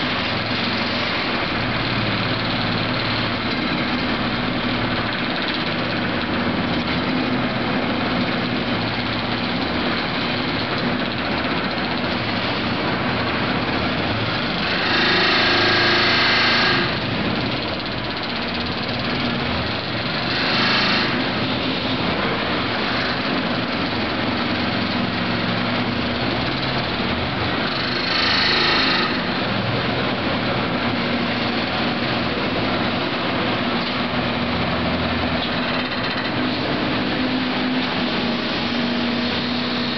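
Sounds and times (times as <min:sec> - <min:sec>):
diesel engine: 0:00.0 - 0:39.9.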